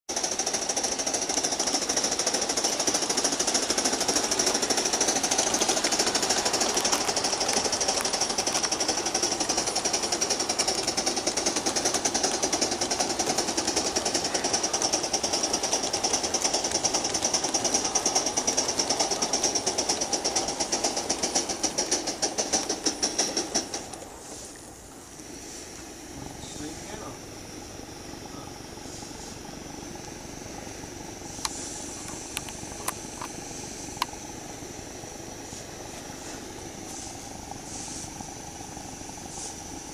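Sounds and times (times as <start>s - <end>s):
steady steam hiss: 0.1s - 39.9s
steam locomotive exhaust chatter: 0.1s - 39.9s.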